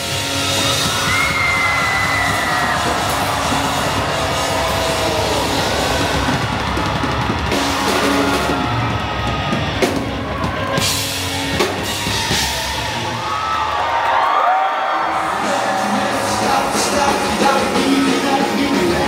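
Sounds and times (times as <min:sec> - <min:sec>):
live rock band playing: 0:00.0 - 0:13.4, 0:15.1 - 0:19.0.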